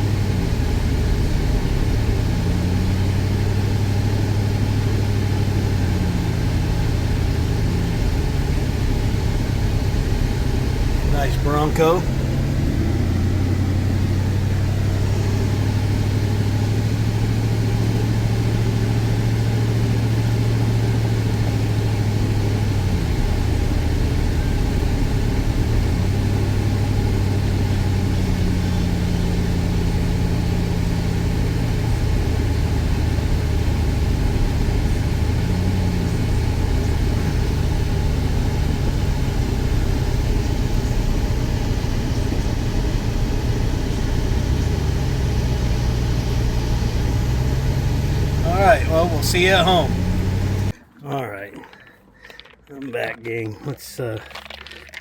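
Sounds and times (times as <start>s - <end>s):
car engine hum: 0.0s - 55.0s
road noise: 0.0s - 55.0s.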